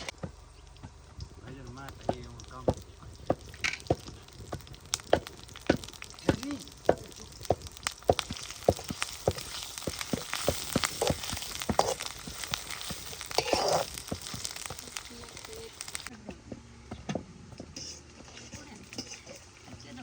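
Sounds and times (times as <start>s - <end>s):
sharp clicks and pops: 0.0s - 16.1s
food sizzling in pot: 0.0s - 20.0s.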